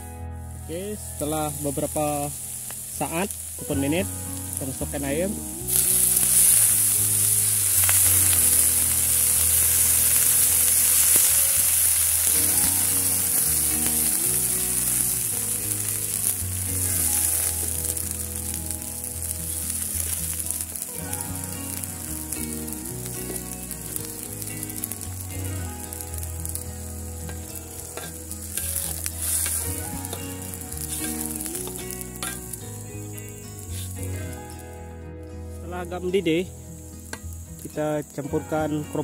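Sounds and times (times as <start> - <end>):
water sizzling in hot wok: 1.4 - 34.2, 36.8 - 38.5.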